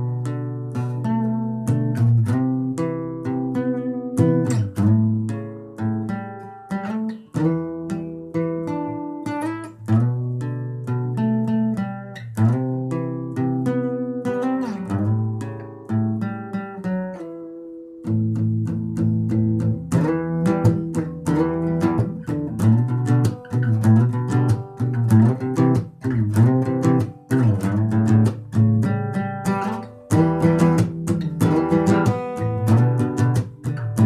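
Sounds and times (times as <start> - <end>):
guitar playing: 0.0 - 34.0.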